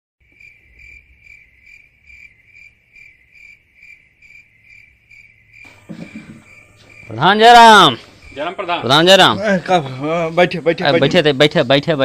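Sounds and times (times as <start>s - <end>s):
cricket chirping: 0.2s - 12.0s.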